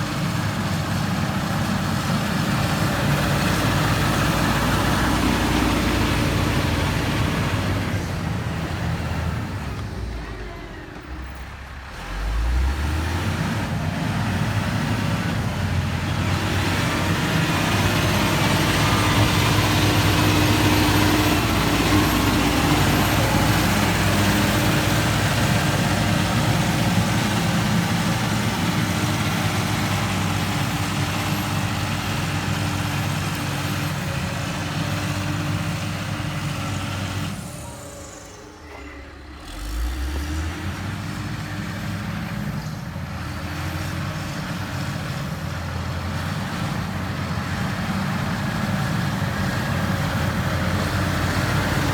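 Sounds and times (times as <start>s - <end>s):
diesel machinery engine running: 0.0s - 51.9s.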